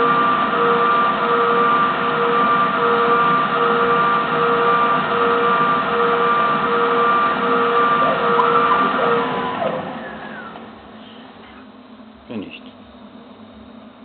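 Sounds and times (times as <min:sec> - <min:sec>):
lathe running and cutting metal: 0:00.0 - 0:11.4
pulsing machine whine: 0:00.0 - 0:14.0.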